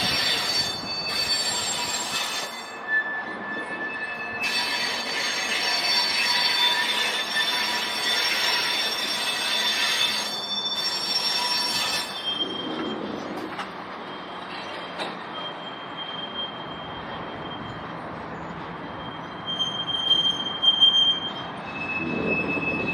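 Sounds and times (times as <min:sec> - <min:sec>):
steel wheels squealing: 0:00.0 - 0:22.9.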